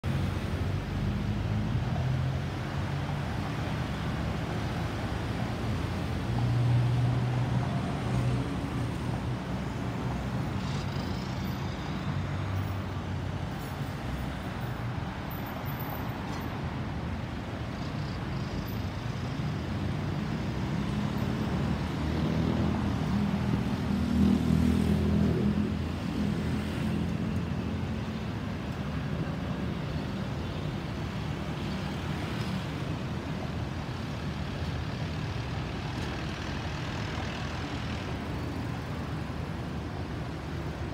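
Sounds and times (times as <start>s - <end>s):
road traffic rumble: 0.0s - 40.9s
vehicles passing: 0.0s - 40.9s.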